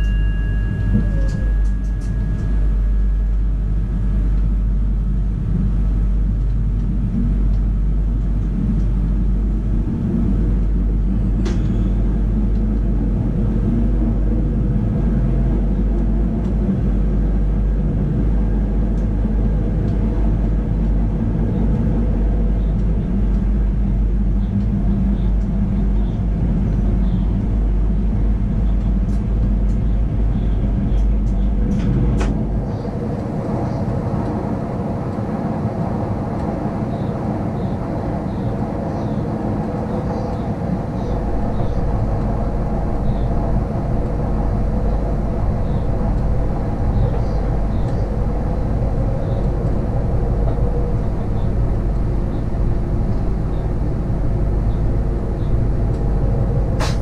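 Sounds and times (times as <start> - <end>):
running gear hum: 0.0 - 57.0
train wheels rumbling on rails: 0.0 - 57.0.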